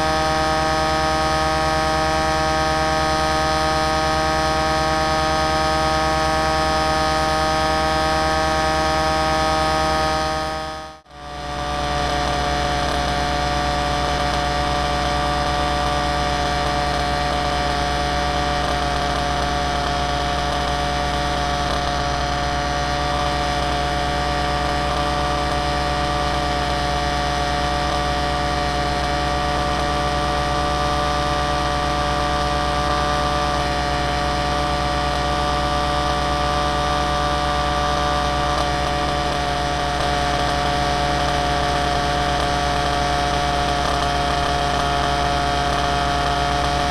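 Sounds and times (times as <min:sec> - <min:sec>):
aircraft motor and propeller whine: 0:00.0 - 0:46.9.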